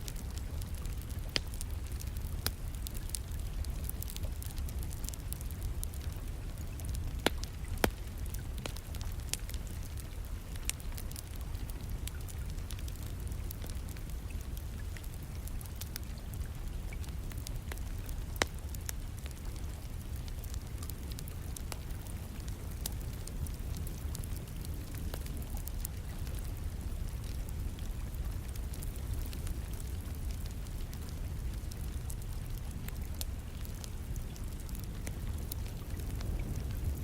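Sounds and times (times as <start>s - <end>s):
rain hiss: 0.0s - 37.0s
wood fire crackling: 0.0s - 37.0s.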